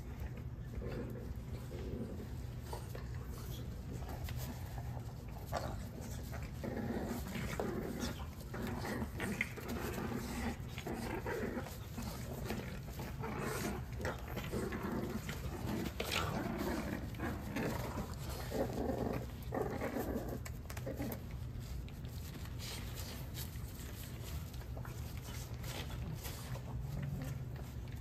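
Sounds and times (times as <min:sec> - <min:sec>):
paws scuffling on pads: 0:00.0 - 0:28.0
puppies grunting and growling: 0:00.0 - 0:28.0.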